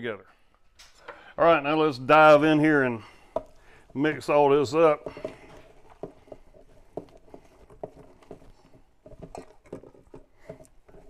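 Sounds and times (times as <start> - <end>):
hands kneading soft stuffing: 1.7 - 11.0.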